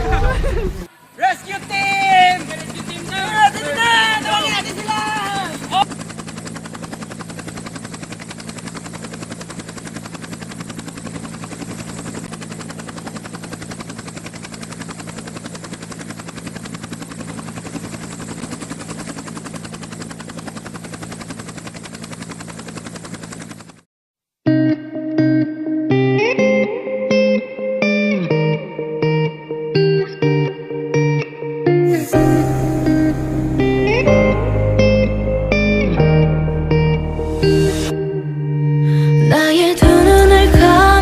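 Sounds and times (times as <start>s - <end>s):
helicopter rotor and engine: 0.0s - 23.9s, 28.2s - 41.0s.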